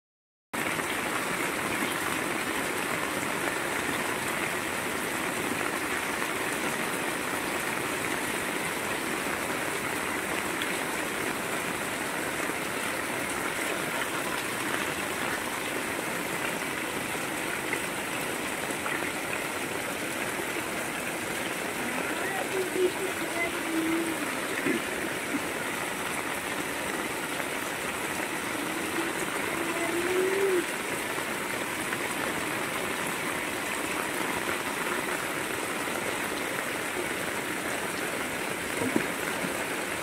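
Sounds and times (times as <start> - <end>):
heavy rain falling: 0.6 - 40.0.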